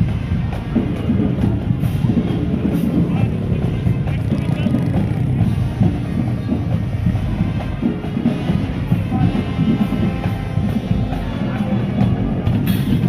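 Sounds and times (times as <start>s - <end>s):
bass drums beating: 0.0s - 13.0s
marching band playing: 0.0s - 13.0s.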